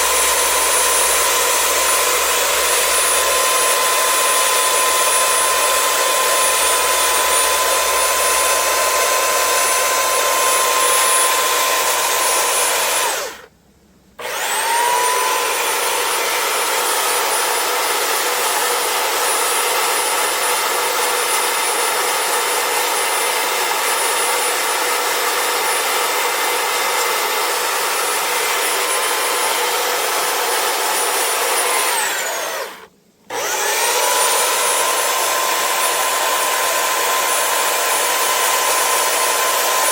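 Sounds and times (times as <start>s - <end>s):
power tool motor whining: 0.0s - 13.5s, 14.2s - 39.9s.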